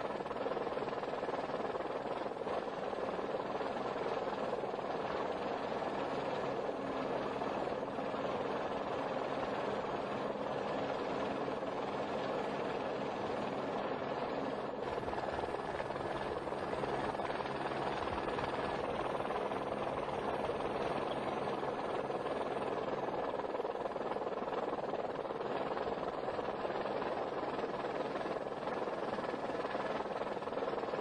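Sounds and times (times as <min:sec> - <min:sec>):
steady engine drone: 0:00.0 - 0:31.0.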